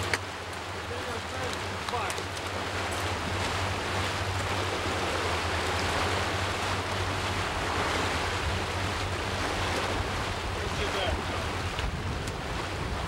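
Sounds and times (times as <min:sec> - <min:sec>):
boat engine hum: 0:00.0 - 0:13.0
water rushing along boat hull: 0:00.0 - 0:13.0.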